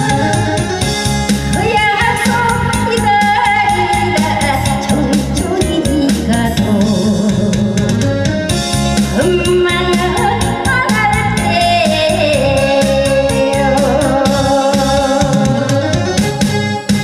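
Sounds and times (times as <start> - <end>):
woman singing: 0.0 - 8.0, 9.1 - 15.8
backing track with steady beat: 0.0 - 17.0.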